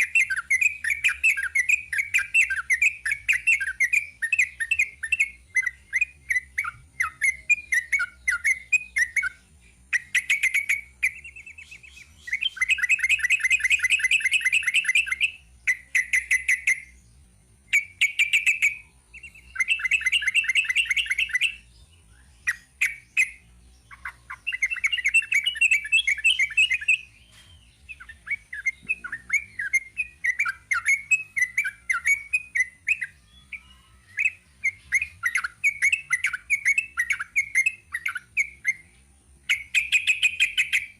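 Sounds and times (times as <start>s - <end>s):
fast bird trills: 0.0s - 16.9s, 17.7s - 21.7s, 22.4s - 27.2s, 27.8s - 38.9s, 39.5s - 40.9s
bird chattering song: 0.0s - 40.9s.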